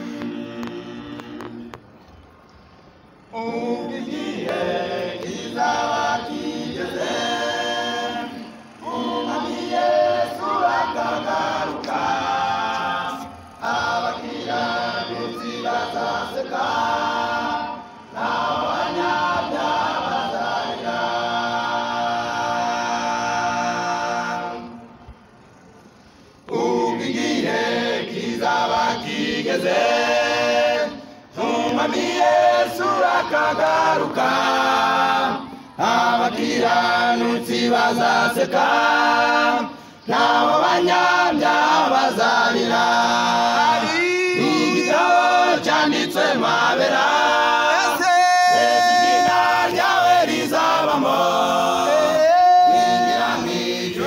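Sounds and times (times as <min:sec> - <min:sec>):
choir singing in parts: 0:00.0 - 0:02.1, 0:03.2 - 0:25.3, 0:26.4 - 0:54.0.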